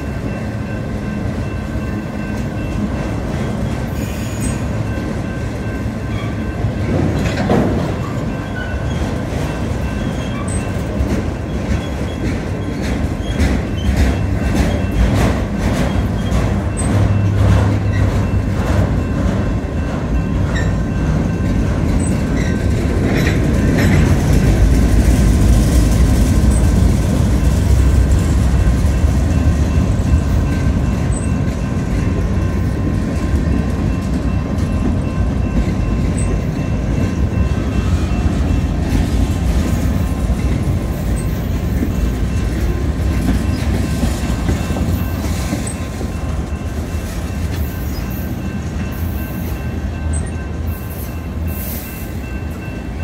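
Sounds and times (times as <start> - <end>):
freight train wheels rumbling on rail: 0.0 - 53.0
wheels clickety-clack over rail joints: 0.0 - 53.0.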